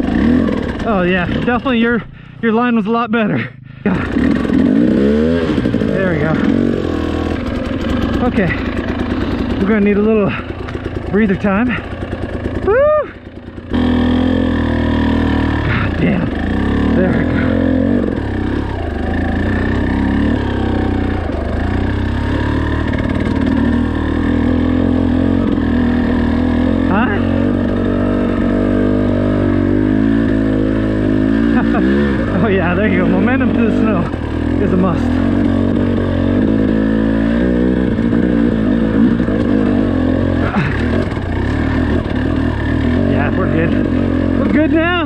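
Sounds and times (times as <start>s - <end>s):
dirt bike engine running: 0.0s - 45.0s
clatter: 3.9s - 26.9s, 31.4s - 45.0s.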